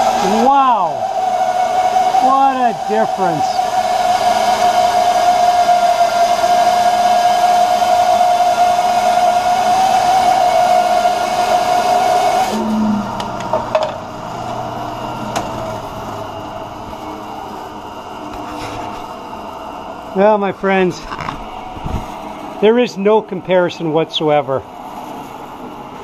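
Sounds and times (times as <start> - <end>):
bandsaw running: 0.0 - 26.0
bandsaw winding down hum: 0.0 - 26.0.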